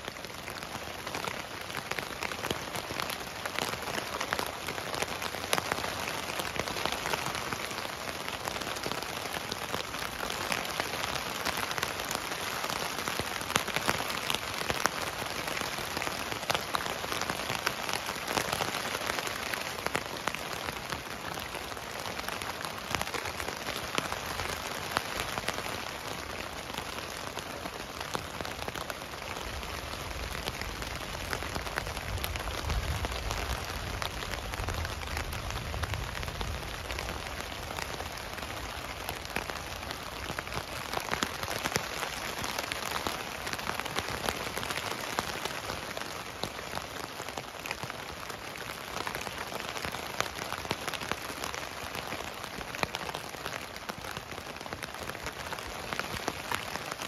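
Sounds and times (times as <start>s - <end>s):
rain drops tapping on tent: 0.0s - 57.0s.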